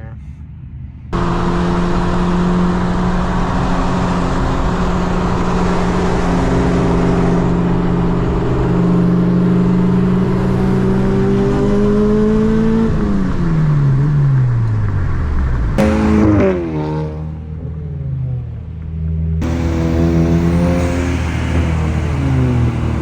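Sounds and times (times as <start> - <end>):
car engine running: 1.1 - 23.0.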